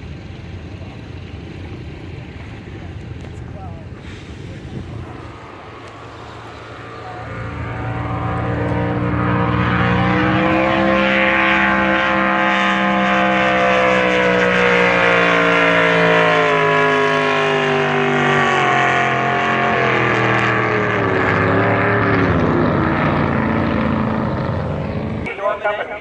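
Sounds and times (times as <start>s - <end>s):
boat racing engine running hard: 0.0s - 26.0s.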